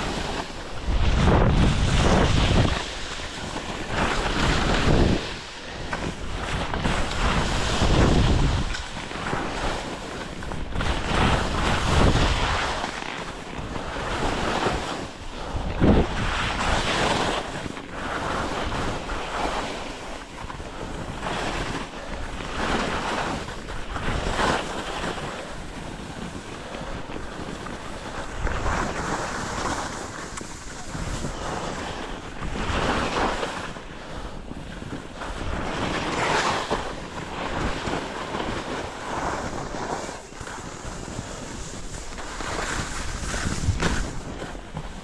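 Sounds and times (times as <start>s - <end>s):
skis scraping over snow: 0.0s - 45.0s
wind rumbling on microphone: 0.0s - 45.0s.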